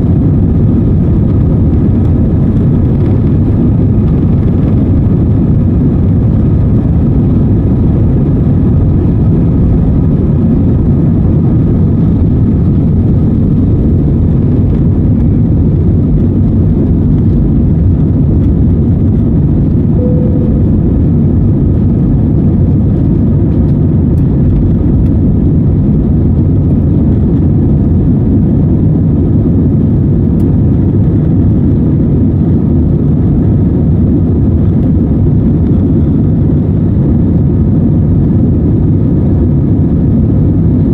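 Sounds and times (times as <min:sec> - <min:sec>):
jet engines low rumble: 0:00.0 - 0:40.9.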